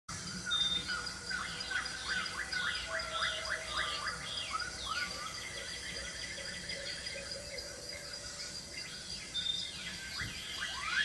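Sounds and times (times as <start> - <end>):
bird chirping: 0.1 - 11.0.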